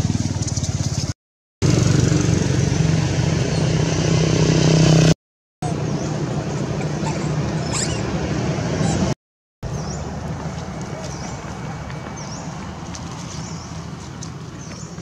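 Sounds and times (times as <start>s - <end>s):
engine pulsing hum: 0.0s - 15.0s.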